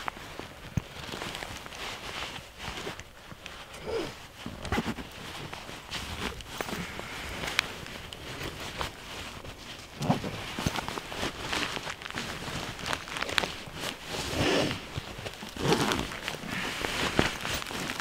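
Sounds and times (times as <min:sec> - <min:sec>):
backpack fabric rustling: 0:00.0 - 0:18.0.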